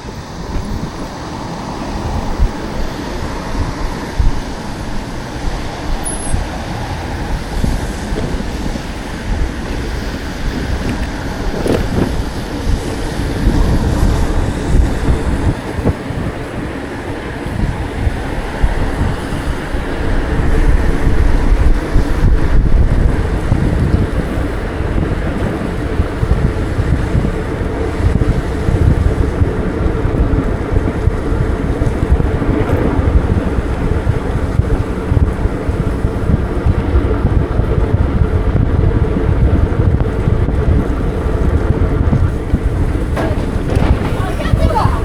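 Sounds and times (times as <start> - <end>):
faint street traffic: 0.0 - 45.0
wind buffeting microphone: 0.0 - 45.0.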